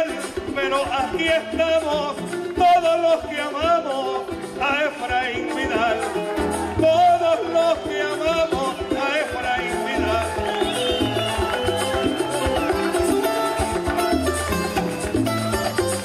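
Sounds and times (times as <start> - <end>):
folk string band with guitar: 0.0 - 16.0.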